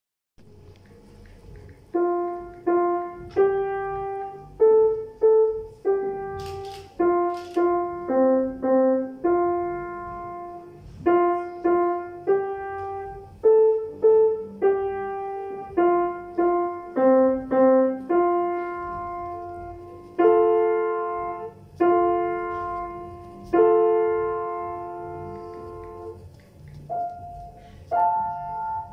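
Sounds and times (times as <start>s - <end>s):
grand piano melody: 0.4s - 28.9s.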